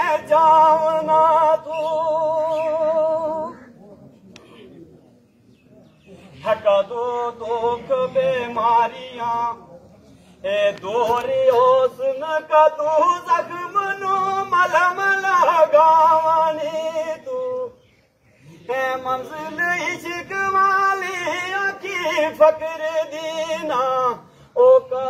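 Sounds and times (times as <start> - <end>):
man singing unaccompanied: 0.0 - 3.7, 6.3 - 9.8, 10.4 - 25.0.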